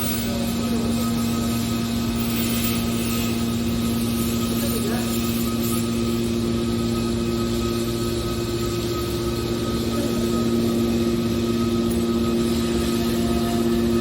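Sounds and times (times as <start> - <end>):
hydraulic baler machine hum: 0.0 - 14.0.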